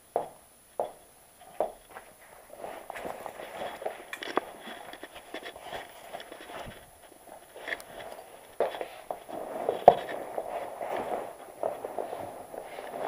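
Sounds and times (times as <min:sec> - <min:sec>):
fabric backpack rustling: 0:01.9 - 0:13.0.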